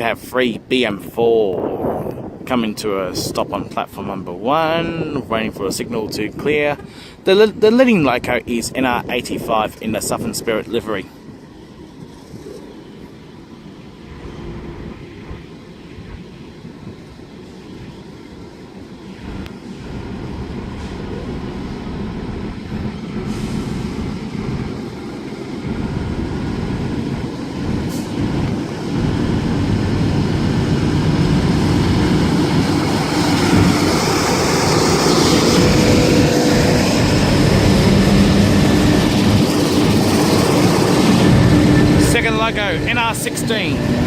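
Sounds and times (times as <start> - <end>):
diesel locomotive engines: 0.0 - 44.0.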